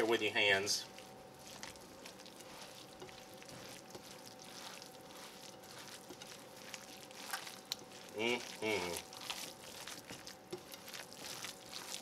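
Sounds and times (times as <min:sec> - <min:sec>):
faint steady hum: 0:00.0 - 0:12.0
wet squishing of hand mixing: 0:00.0 - 0:12.0.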